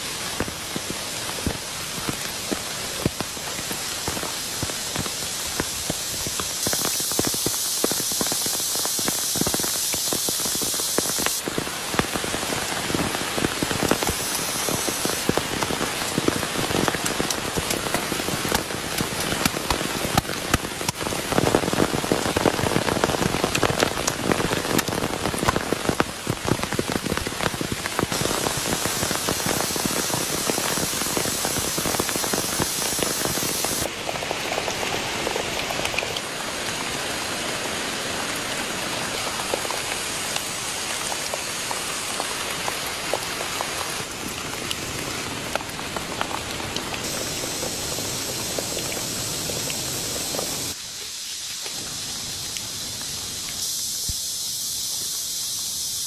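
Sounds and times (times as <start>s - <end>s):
rain drops striking a surface: 0.0s - 56.0s.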